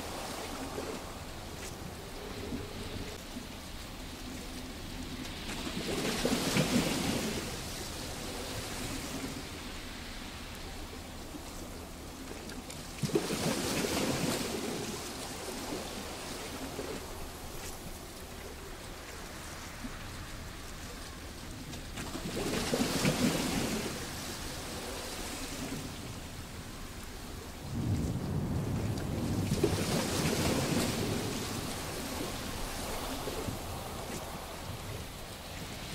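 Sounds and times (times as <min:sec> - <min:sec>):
waves breaking on rocky beach: 0:00.0 - 0:35.9.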